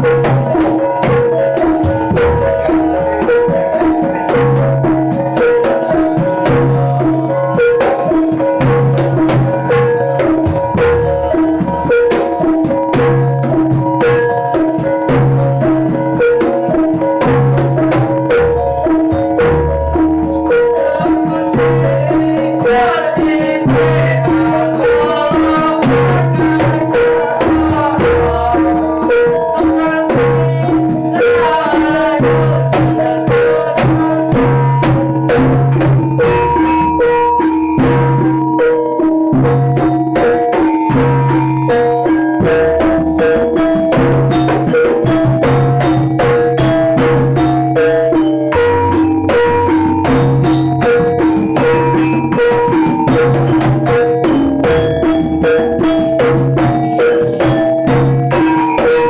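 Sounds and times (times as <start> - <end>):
gong-chime notes: 0.0 - 22.7, 23.7 - 59.0
hand drums in quick rhythm: 0.0 - 59.0
metal percussion melody: 0.0 - 59.0.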